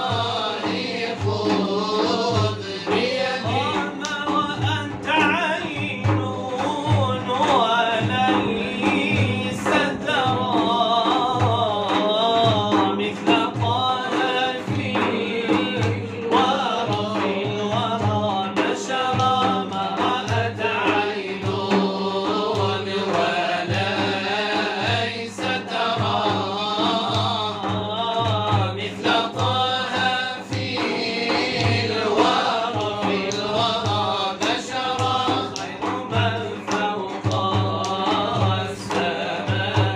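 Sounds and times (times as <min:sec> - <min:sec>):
men singing: 0:00.0 - 0:39.9
steady drum beat: 0:00.0 - 0:39.9.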